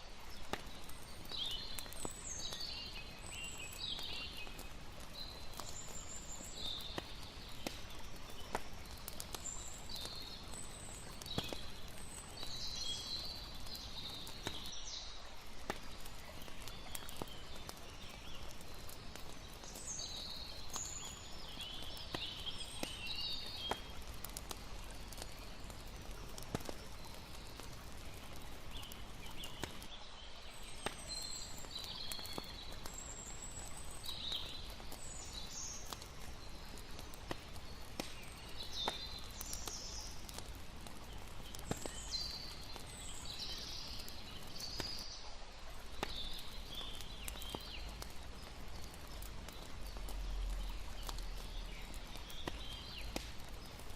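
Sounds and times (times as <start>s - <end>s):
campfire crackling: 0.0s - 53.9s
water flowing: 0.0s - 53.9s.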